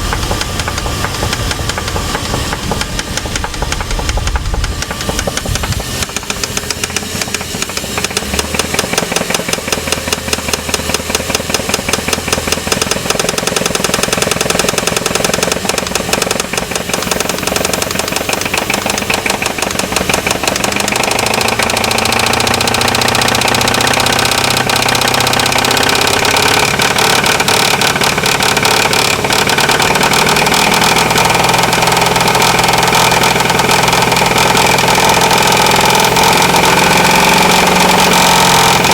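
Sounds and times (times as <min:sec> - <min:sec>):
engine running with rapid knock: 0:00.0 - 0:38.9.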